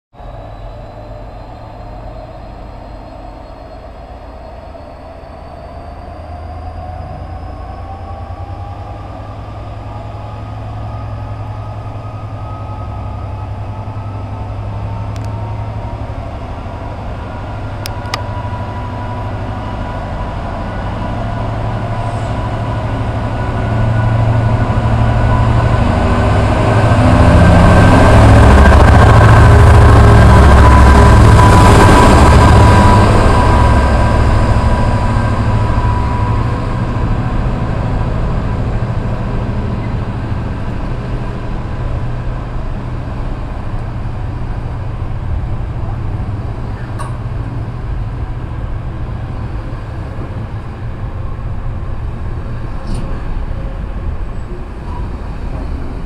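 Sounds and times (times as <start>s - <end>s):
diesel locomotive engine rumble: 0.1s - 56.0s
rising whine: 0.2s - 56.0s.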